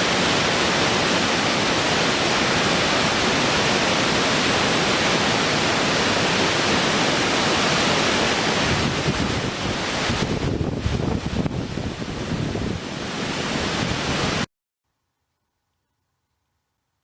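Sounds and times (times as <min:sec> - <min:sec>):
rushing white water: 0:00.0 - 0:14.5.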